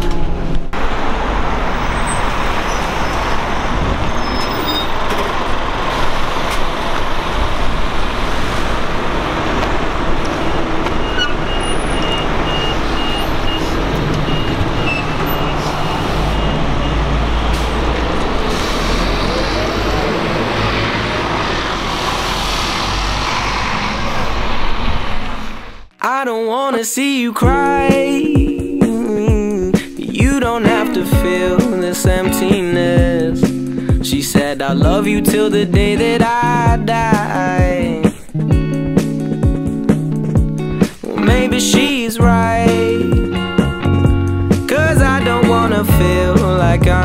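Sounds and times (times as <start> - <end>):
bus engine and road rumble: 0.0 - 25.9, 29.5 - 47.0.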